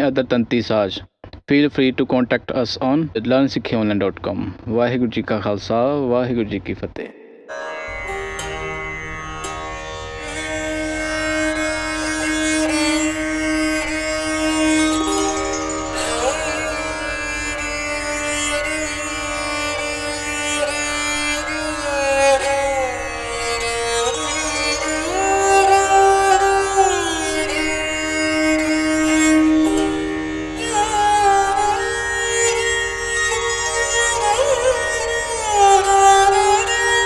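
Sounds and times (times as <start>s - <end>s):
bowed string melody: 7.0s - 37.0s.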